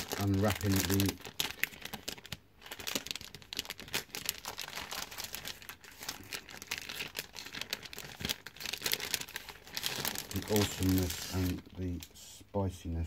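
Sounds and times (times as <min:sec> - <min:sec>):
wrapping crinkling and tearing: 0:00.0 - 0:12.2.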